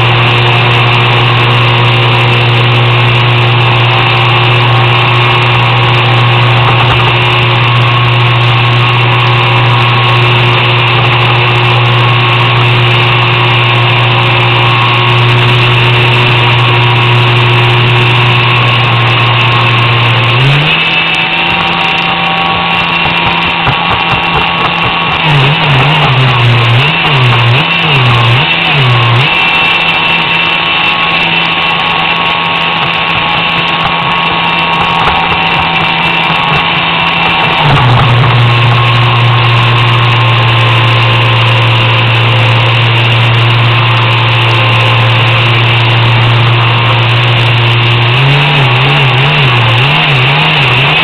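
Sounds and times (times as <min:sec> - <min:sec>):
electric motor drone: 0:00.0 - 0:51.0.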